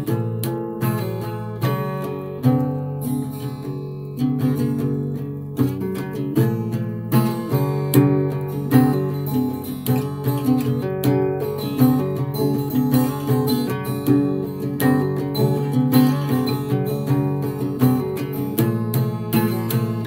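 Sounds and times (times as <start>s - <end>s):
strummed guitar music: 0.0s - 20.0s.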